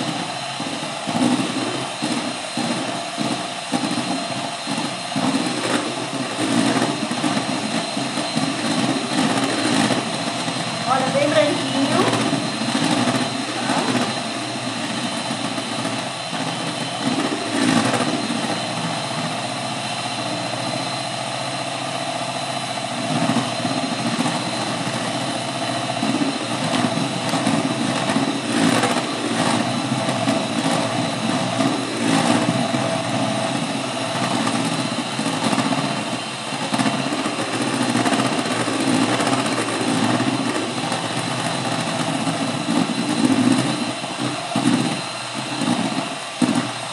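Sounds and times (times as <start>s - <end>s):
electric hand mixer running: 0.0s - 46.9s.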